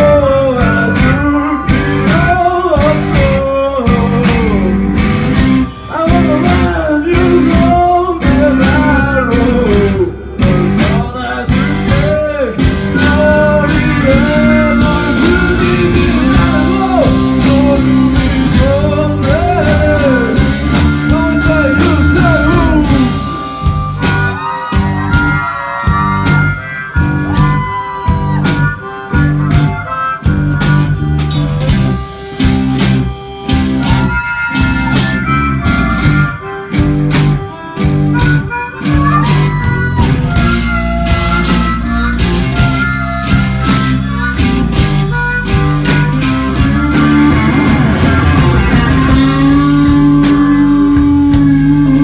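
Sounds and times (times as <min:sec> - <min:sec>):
amplified harmonica: 0:00.0 - 0:52.0
bass: 0:00.0 - 0:52.0
drums: 0:00.0 - 0:52.0
electric guitar: 0:00.0 - 0:52.0.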